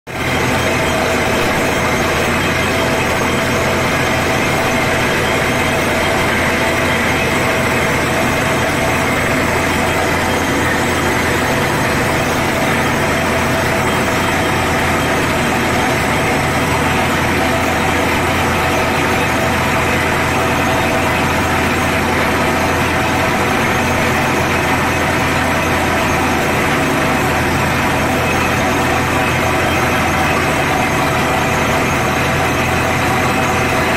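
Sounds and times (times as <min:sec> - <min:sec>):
drilling rig running: 0:00.1 - 0:33.9.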